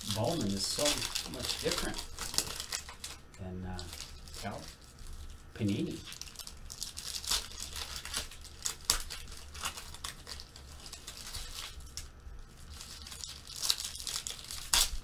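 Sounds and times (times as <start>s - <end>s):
foil wrappers crinkling and tearing: 0.0s - 15.0s.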